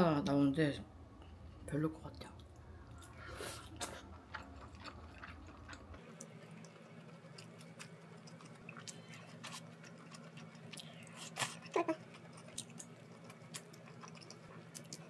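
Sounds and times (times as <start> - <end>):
person chewing: 2.8 - 15.0.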